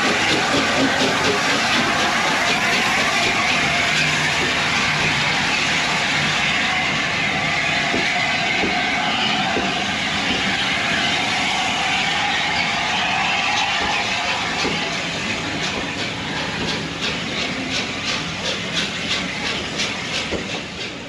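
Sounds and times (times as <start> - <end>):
train rushing on track: 0.0 - 21.0.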